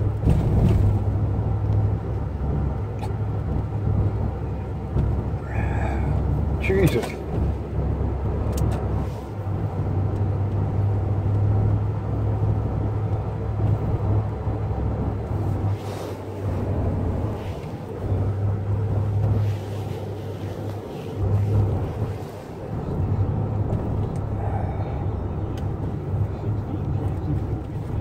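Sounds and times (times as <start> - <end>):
car engine rumble from inside: 0.0 - 28.0.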